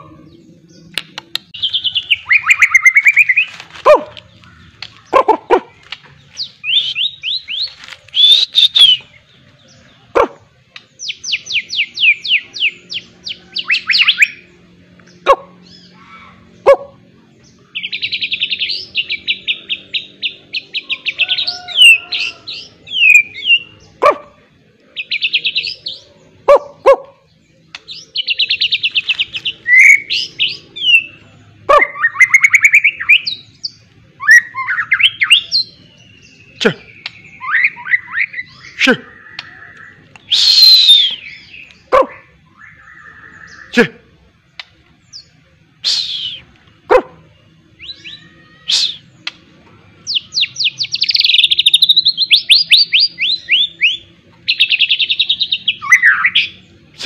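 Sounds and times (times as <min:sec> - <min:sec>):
bird singing trills and whistles: 0:00.0 - 0:03.6, 0:06.3 - 0:10.2, 0:10.8 - 0:16.4, 0:17.4 - 0:24.1, 0:27.7 - 0:43.8, 0:45.0 - 0:46.8, 0:47.4 - 0:57.0
bird harsh calls: 0:00.0 - 0:57.0.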